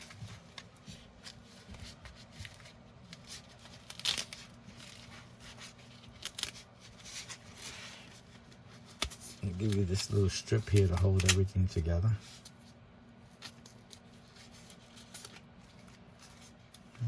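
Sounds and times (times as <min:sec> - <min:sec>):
packaging rustling and crackling: 0:00.0 - 0:17.0.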